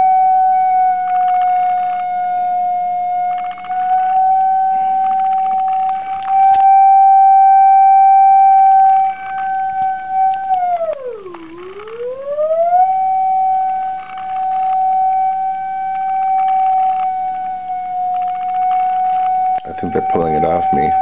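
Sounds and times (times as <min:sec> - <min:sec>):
faint scratchy rustling: 0:00.0 - 0:21.0
whistle-like meter tone: 0:00.0 - 0:21.0.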